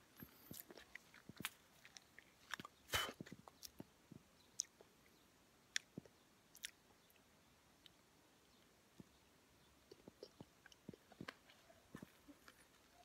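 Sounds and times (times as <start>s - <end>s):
person chewing fruit: 0.0s - 5.1s, 5.7s - 8.1s, 9.8s - 13.0s.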